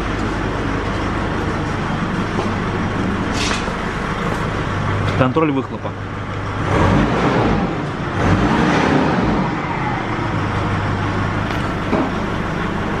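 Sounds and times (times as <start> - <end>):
diesel engine exhaust blowing: 0.0 - 13.0.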